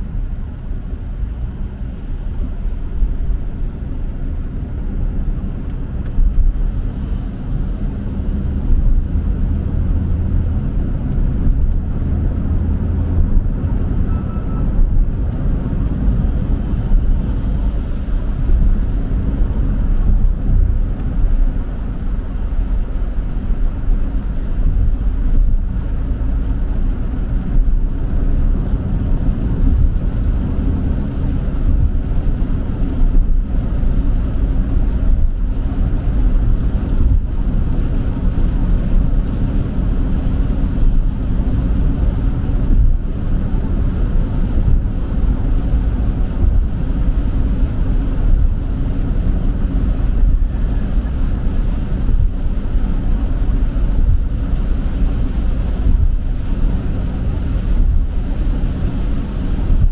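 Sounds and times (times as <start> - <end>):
tyres on wet road: 0.0 - 59.9.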